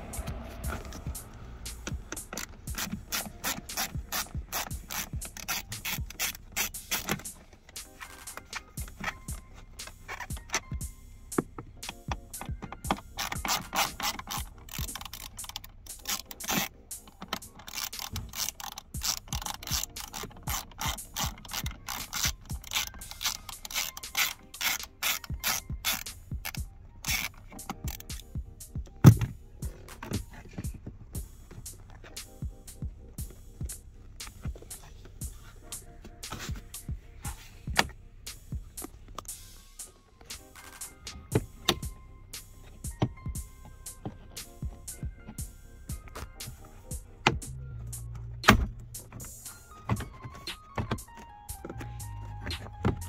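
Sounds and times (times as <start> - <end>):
hand ratchet clicking: 0.0 - 53.0.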